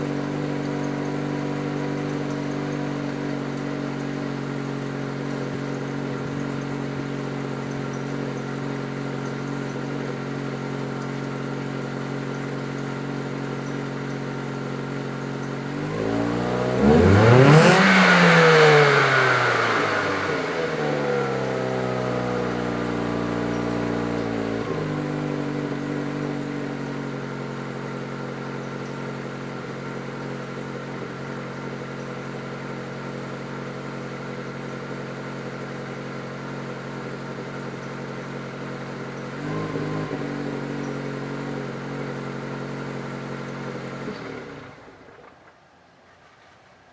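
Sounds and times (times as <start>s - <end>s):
car engine revving: 0.0s - 45.3s
car engine idling: 0.0s - 46.9s.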